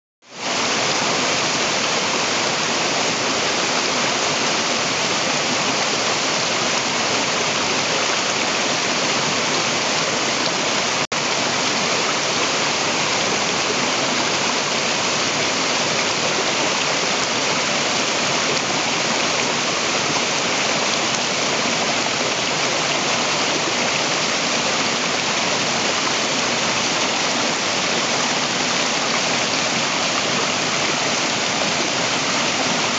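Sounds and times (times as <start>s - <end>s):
waterfall pouring into pool: 0.3s - 32.9s.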